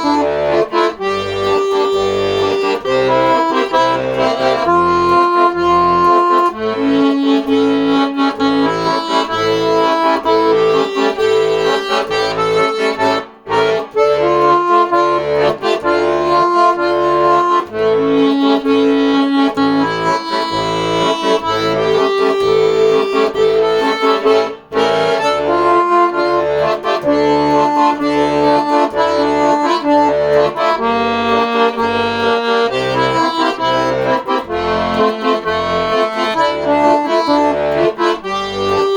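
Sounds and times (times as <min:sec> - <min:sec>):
accordion melody: 0:00.0 - 0:38.9.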